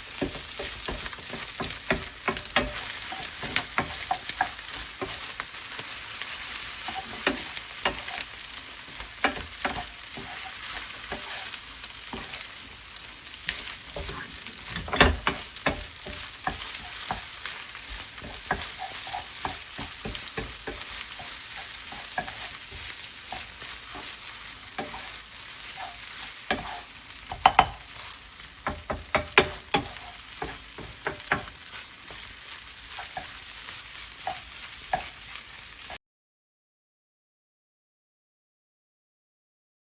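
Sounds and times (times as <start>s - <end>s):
fried rice sizzling in a pan: 0.0s - 36.0s
scraping clicks in a pan: 0.2s - 5.9s, 6.8s - 12.5s, 13.4s - 33.4s, 34.2s - 35.2s.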